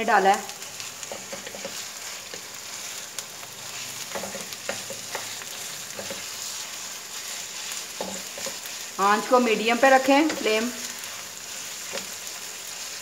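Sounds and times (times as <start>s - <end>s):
meat sizzling in oil: 0.0s - 13.0s
wooden spatula scraping pan: 1.0s - 3.0s, 3.6s - 13.0s.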